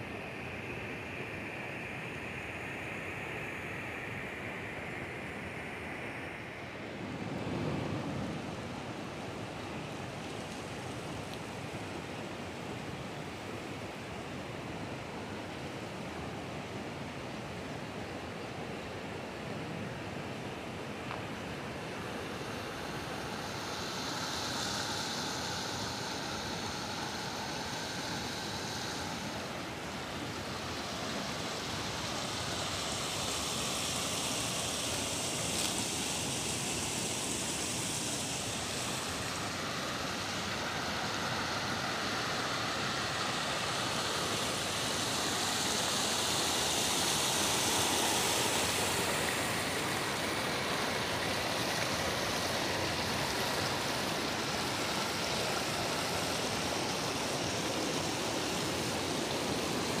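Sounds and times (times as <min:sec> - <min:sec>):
stream rushing over stones: 0:06.4 - 1:00.0.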